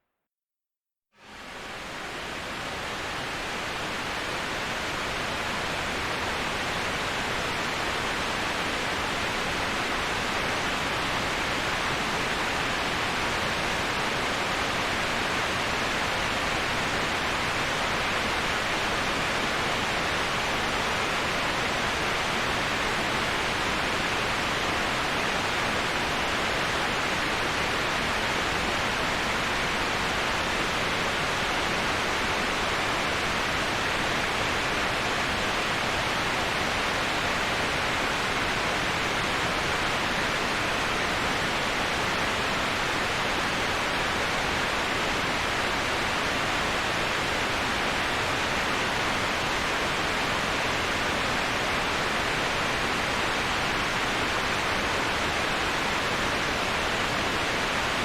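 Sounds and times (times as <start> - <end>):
waterfall rushing: 1.6 - 58.0.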